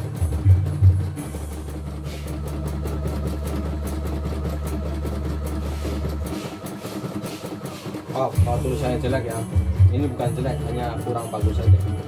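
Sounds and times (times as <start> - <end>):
embroidery machine motor hum: 0.0 - 12.0.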